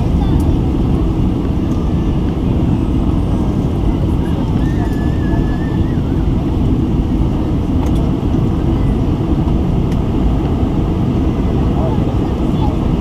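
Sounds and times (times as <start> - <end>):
airplane cabin roar: 0.0 - 13.0.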